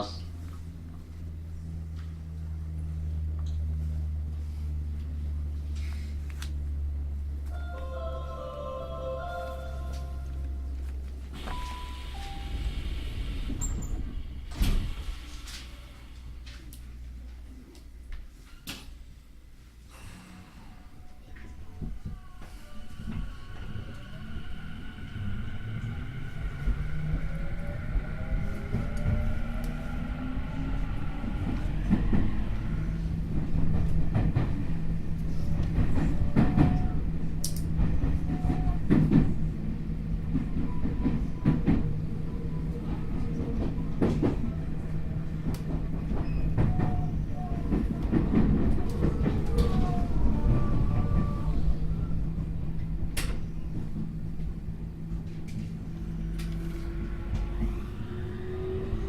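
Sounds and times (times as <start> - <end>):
train wheels rumbling on rails: 9.7 - 59.0.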